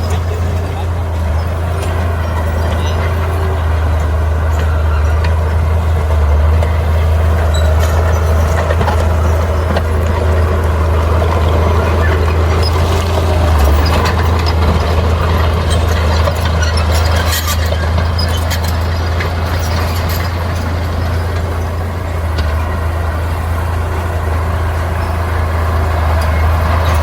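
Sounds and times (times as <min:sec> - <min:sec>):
bulldozer diesel engine droning: 0:00.0 - 0:27.0.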